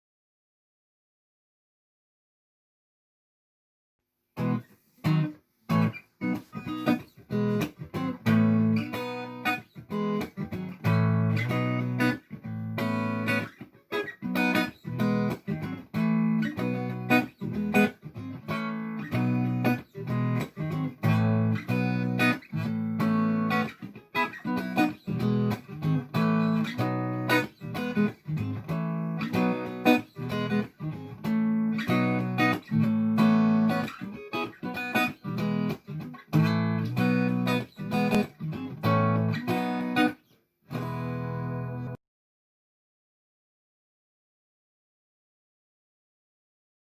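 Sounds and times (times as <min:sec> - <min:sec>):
plucked guitar music: 0:04.4 - 0:42.0.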